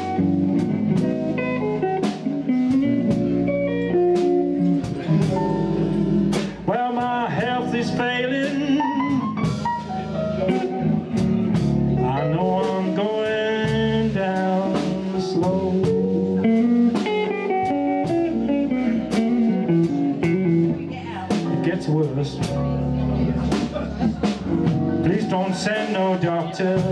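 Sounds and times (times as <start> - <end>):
blues band playing: 0.0 - 26.9
lead guitar: 0.0 - 26.9.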